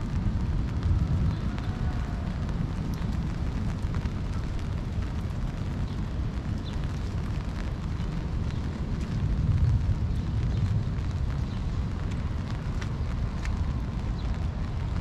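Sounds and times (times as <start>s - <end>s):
rain falling: 0.0s - 15.0s
steady low rumble: 0.0s - 15.0s
taps of raindrops: 0.0s - 15.0s.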